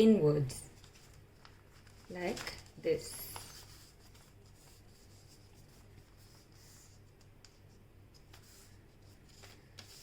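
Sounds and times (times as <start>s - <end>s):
paper being folded and creased: 0.8s - 10.0s.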